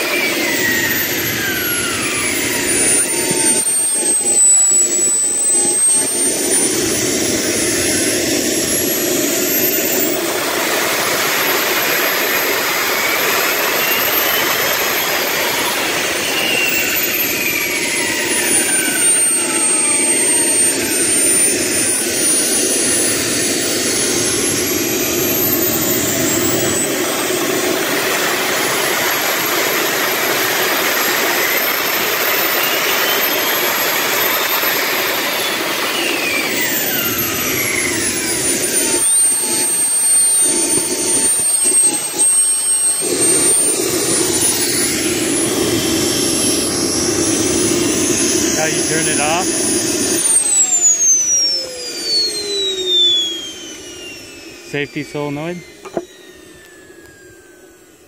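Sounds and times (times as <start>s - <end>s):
gas turbine engine whining: 0.0s - 58.0s.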